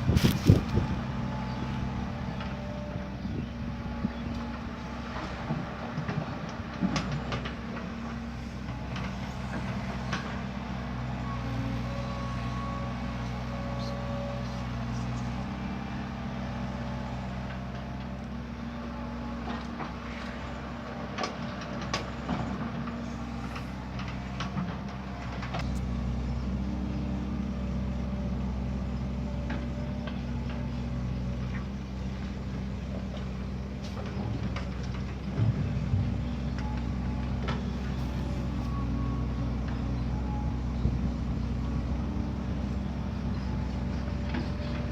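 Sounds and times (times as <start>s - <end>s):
diesel earthmoving machinery running: 0.0s - 44.9s.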